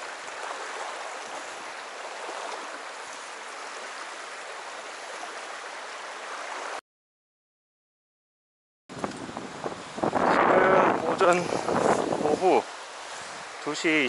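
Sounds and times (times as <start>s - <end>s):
creek water running: 0.0s - 6.8s, 8.9s - 14.0s.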